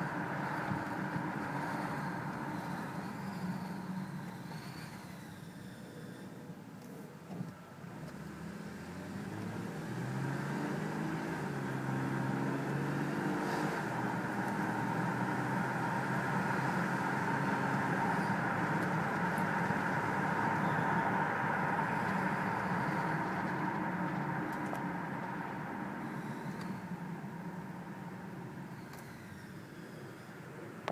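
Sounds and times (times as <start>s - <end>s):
car engine accelerating: 0.0s - 7.0s, 7.7s - 30.9s
road noise: 0.0s - 30.9s.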